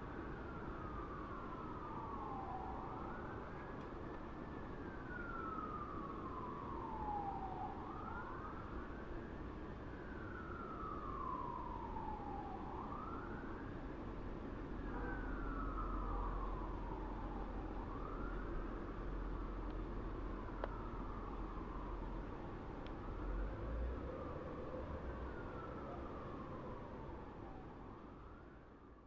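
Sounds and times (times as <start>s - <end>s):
distant fire truck siren wailing: 0.1s - 9.0s, 9.8s - 13.9s, 14.6s - 29.0s.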